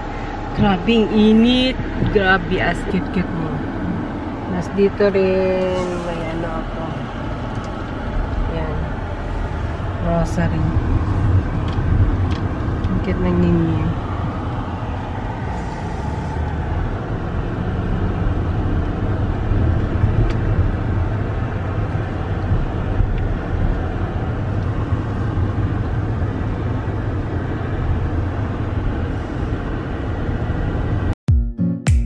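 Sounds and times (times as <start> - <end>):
car engine and tyre rumble: 0.0 - 31.2.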